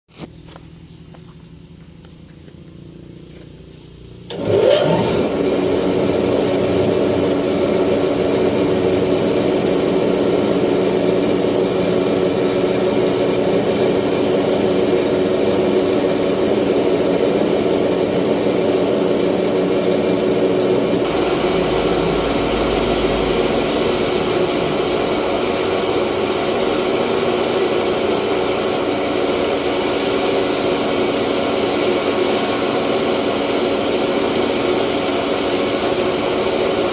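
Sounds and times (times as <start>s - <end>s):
rice milling machine running: 3.2s - 36.9s.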